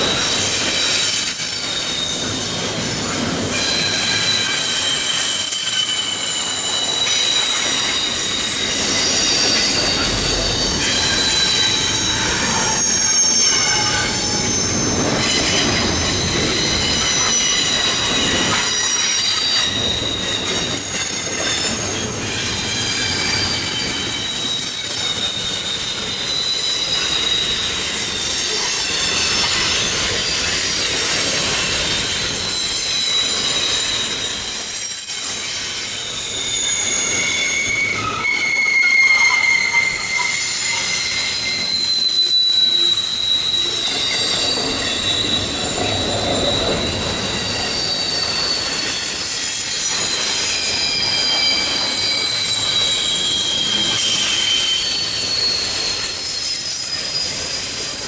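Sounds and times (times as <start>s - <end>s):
train wheels rumbling: 0.0s - 58.0s
train wheels squealing on rail: 0.0s - 58.0s.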